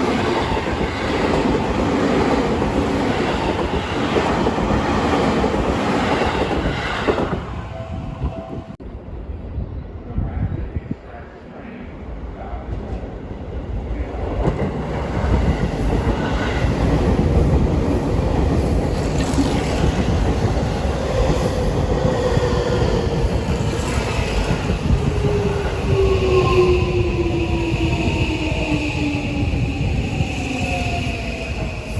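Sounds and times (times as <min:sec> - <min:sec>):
electric train on rails: 0:00.0 - 0:31.9.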